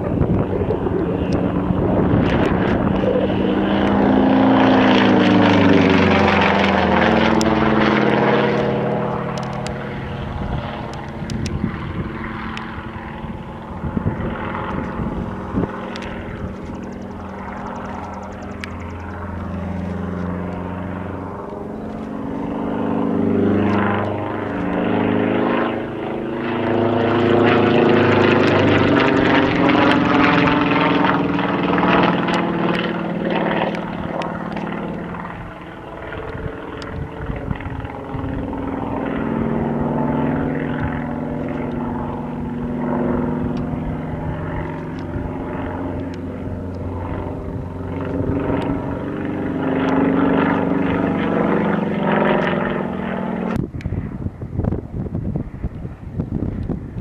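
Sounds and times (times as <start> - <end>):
propeller plane engine overhead: 0.0 - 57.0.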